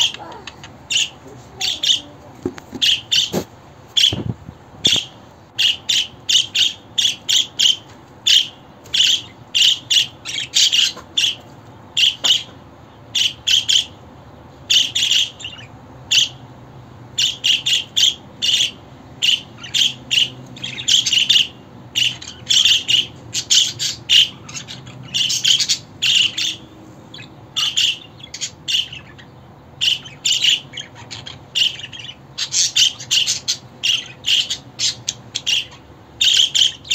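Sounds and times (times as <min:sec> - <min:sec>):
budgerigar chirping: 0:02.8 - 0:03.4, 0:04.0 - 0:11.4, 0:12.0 - 0:12.5, 0:13.1 - 0:14.0, 0:14.7 - 0:16.4, 0:17.2 - 0:36.9.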